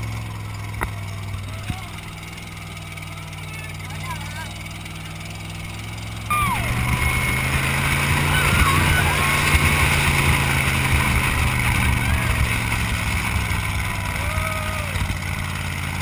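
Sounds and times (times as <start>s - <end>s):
dune buggy engine running: 0.0s - 16.0s.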